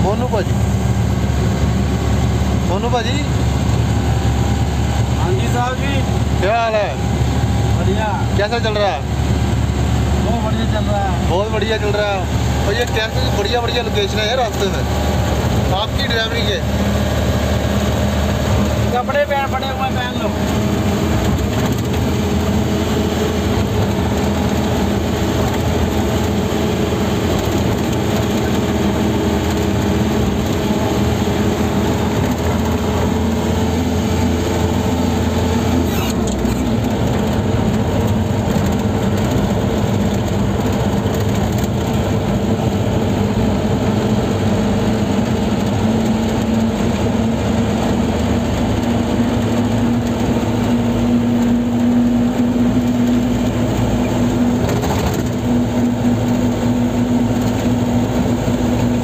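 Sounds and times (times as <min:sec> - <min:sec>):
car engine and tyre drone: 0:00.0 - 0:59.0.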